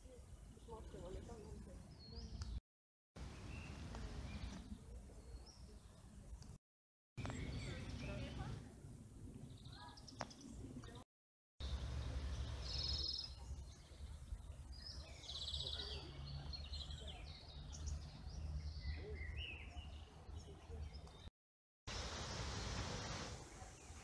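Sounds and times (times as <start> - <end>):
songbirds singing: 0.0 - 2.6, 3.2 - 6.6, 7.2 - 11.0, 11.6 - 21.3.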